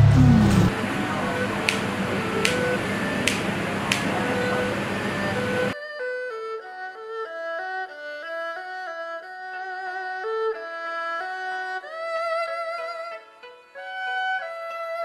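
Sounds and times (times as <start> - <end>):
solo bowed-string melody: 0.0 - 15.0.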